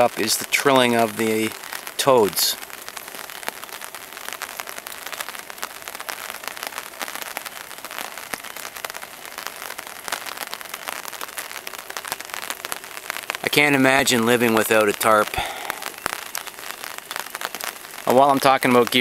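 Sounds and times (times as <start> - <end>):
rain pattering on a tarp: 0.0 - 19.0.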